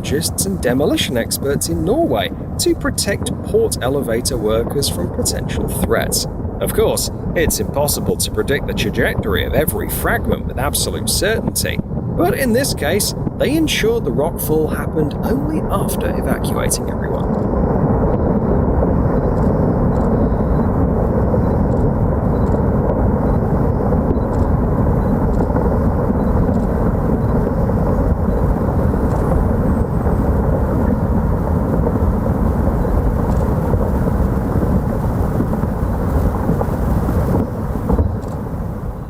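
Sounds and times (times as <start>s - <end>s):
rockfall rumbling: 0.0s - 39.0s.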